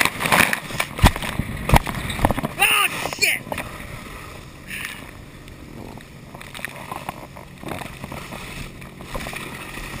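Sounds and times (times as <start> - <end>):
water rushing off water ski: 0.0 - 10.0
water sloshing over lens: 0.0 - 10.0.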